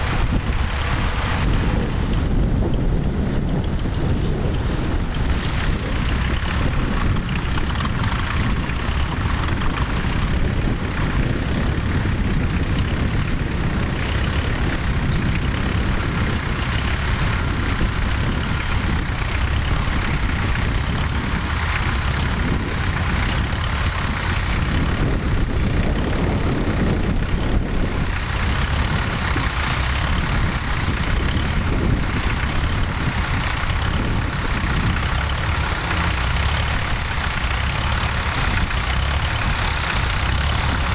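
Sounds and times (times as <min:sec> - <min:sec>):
tractor engine running: 0:00.0 - 0:40.9
wind noise on microphone: 0:00.0 - 0:40.9.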